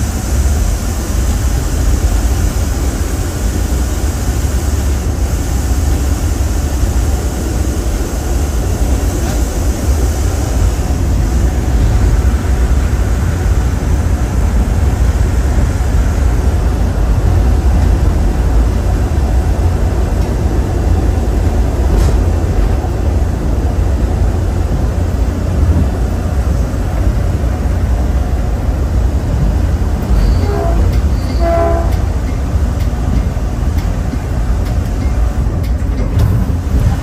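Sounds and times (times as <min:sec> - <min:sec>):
train deep rumble: 0:00.0 - 0:37.0.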